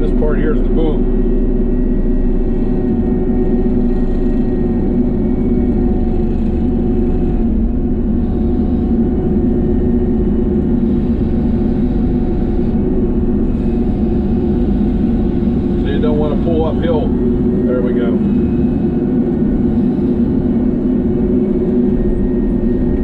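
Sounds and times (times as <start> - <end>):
excavator engine drone: 0.0 - 23.0
hydraulic whine: 0.0 - 23.0.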